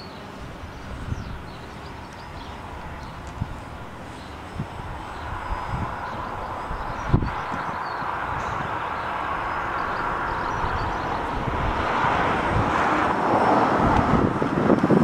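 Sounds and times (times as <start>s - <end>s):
drone propellers buzzing: 0.3s - 15.0s
wind buffeting microphone: 0.3s - 15.0s.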